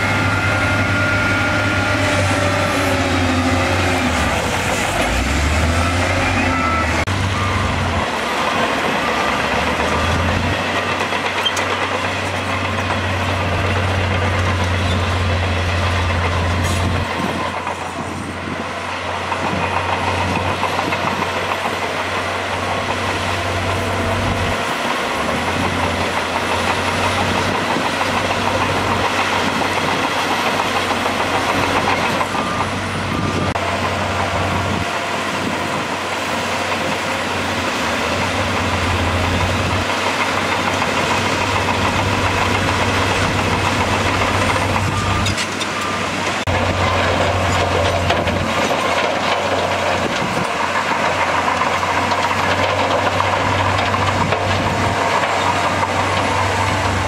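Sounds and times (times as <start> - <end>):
bulldozer pushing dirt and rock: 0.0 - 57.0
heavy diesel engine drone: 0.0 - 57.0
loader dumping dirt: 0.0 - 57.0.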